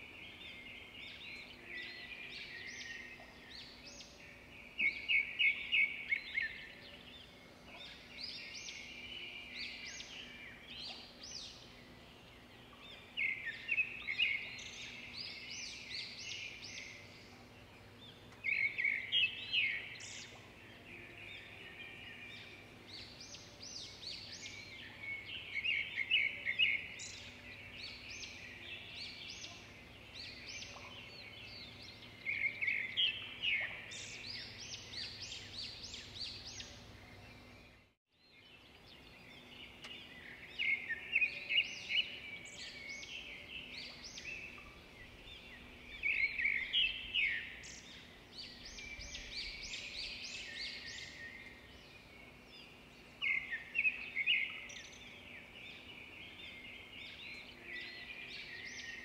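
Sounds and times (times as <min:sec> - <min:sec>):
bird singing: 0:00.0 - 0:59.0.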